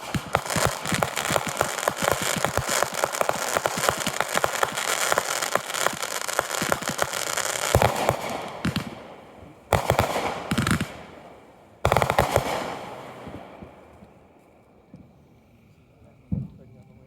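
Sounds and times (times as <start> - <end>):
fireworks cracking and banging: 0.0 - 15.2.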